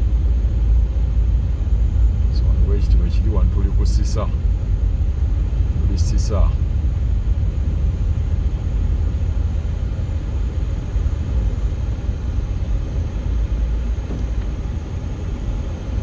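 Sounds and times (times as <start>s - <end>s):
road and wind noise: 0.0s - 16.0s
vehicle rumble: 0.0s - 16.0s.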